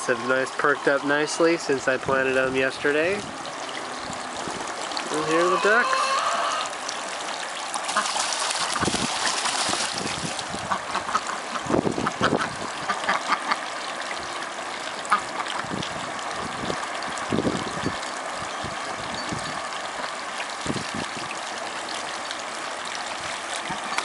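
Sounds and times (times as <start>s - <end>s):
water trickling into pond: 0.0s - 24.0s
ducks splashing in water: 3.0s - 24.0s.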